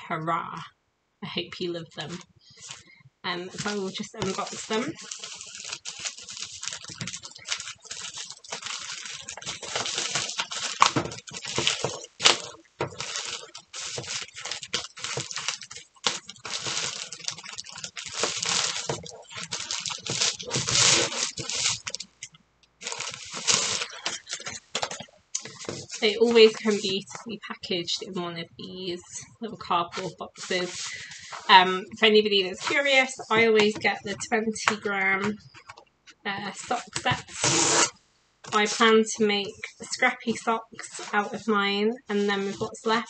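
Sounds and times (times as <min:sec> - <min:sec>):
plastic mailer bag crinkling: 0:02.0 - 0:27.3, 0:29.0 - 0:35.8, 0:38.5 - 0:43.0.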